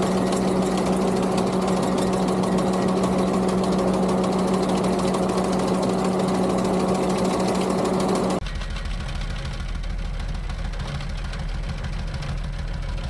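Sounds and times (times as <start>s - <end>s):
engine rumble: 0.0s - 13.0s
mower hum and clatter: 0.0s - 13.0s.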